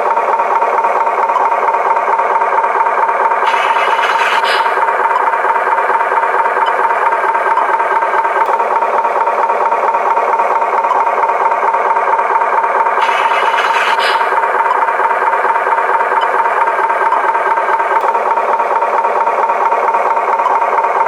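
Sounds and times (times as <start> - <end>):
toy truck mechanical buzz: 0.0 - 21.0.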